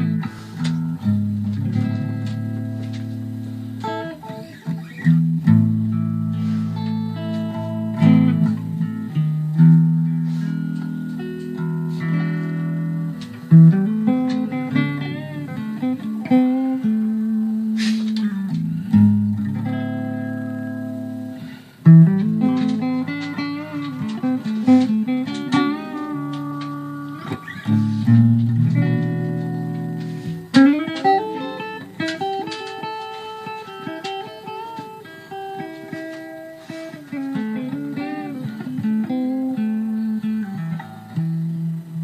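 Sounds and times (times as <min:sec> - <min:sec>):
electric guitar blues solo: 0:00.0 - 0:42.0.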